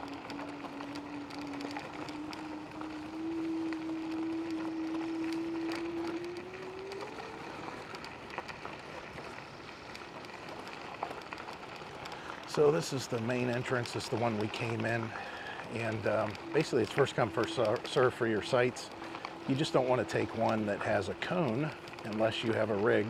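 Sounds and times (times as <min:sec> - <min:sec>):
electric scooter motor whining: 0:00.0 - 0:23.0
tyres on gravel: 0:00.0 - 0:23.0.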